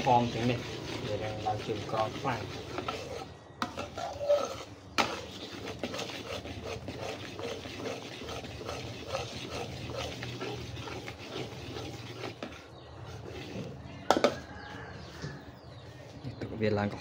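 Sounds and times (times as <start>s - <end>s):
spatula scraping a metal wok: 0.0s - 15.4s.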